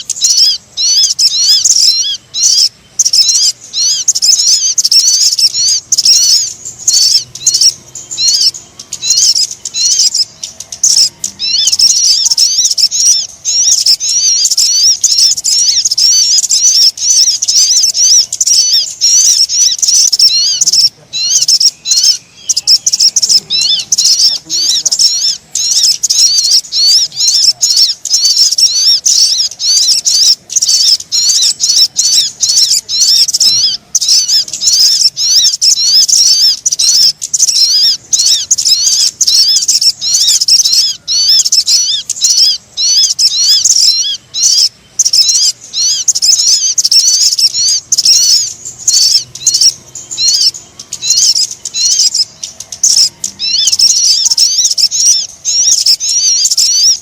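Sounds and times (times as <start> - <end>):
rapid high bird chirps: 0.0 - 57.0.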